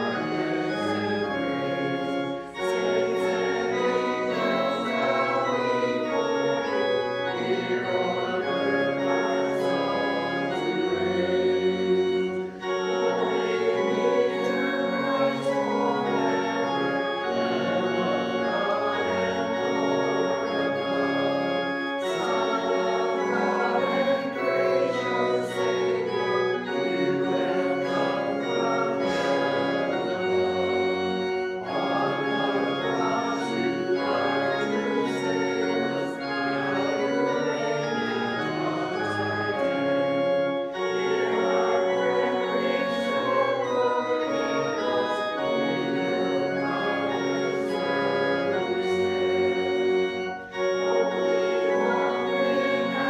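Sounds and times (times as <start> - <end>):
church organ playing a hymn: 0.0 - 53.0.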